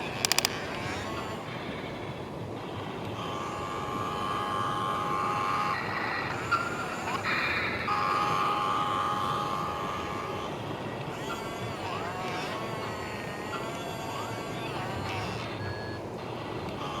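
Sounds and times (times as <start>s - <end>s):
constant hiss: 0.0s - 17.0s
hydraulics whining: 0.0s - 17.0s.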